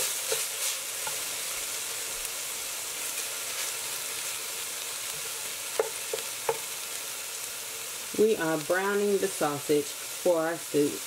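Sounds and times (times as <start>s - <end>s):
sausage sizzling in oil: 0.0s - 11.0s.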